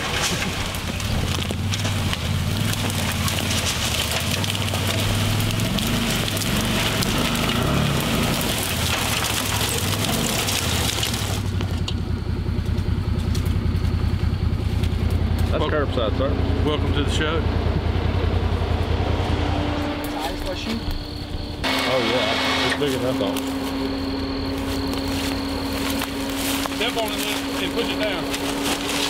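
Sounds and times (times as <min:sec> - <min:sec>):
branches and leaves rustling: 0:00.0 - 0:15.6, 0:17.8 - 0:29.0
utility vehicle engine running: 0:00.0 - 0:29.0.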